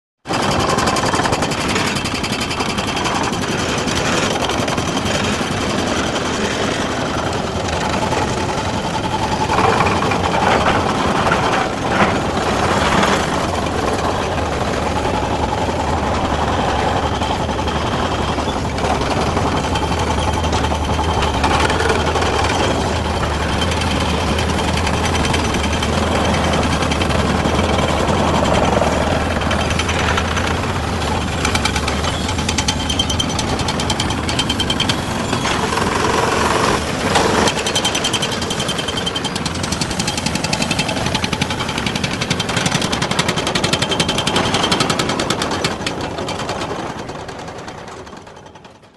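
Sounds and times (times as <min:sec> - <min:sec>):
bulldozer diesel engine clattering: 0:00.2 - 0:48.9
deep steady drone: 0:00.3 - 0:48.1.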